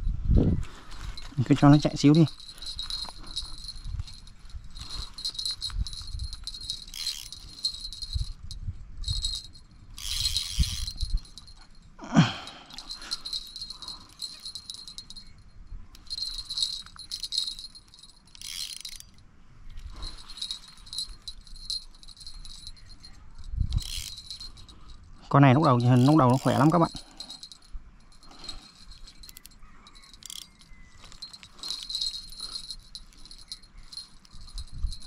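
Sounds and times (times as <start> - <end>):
fishing reel drag clicking: 2.0 - 11.6, 12.8 - 19.2, 19.8 - 35.0.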